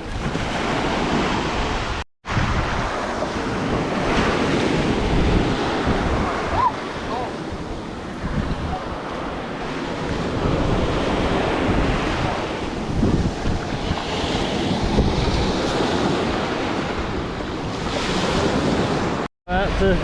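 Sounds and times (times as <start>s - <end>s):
sea waves washing ashore: 0.0s - 20.0s
wind rumbling on microphone: 0.0s - 20.0s.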